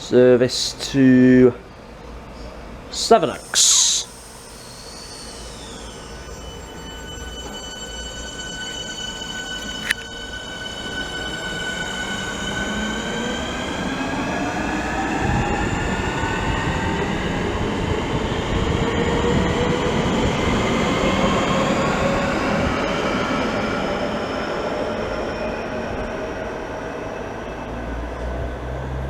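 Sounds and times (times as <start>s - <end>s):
electric train motor whine: 2.0s - 29.0s.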